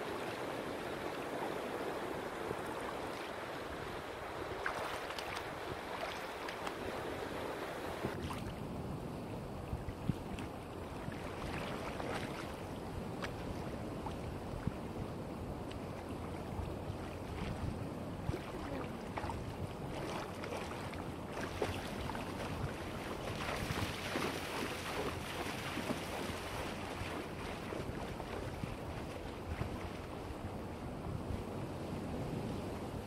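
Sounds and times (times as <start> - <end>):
water rushing and splashing: 0.0 - 8.7, 10.2 - 31.0
wind buffeting microphone: 1.3 - 33.0.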